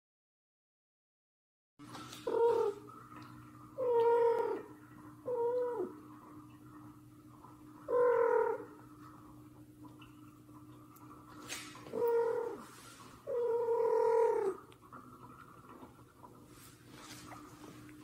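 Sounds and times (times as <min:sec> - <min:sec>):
faint steady hum: 0:01.8 - 0:18.0.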